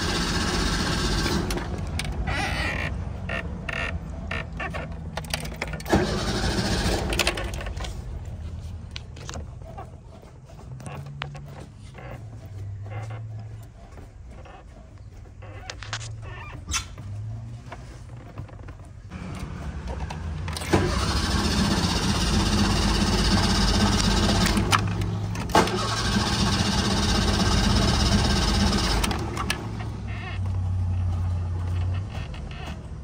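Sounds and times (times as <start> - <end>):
starter motor whirring: 0.0 - 33.0.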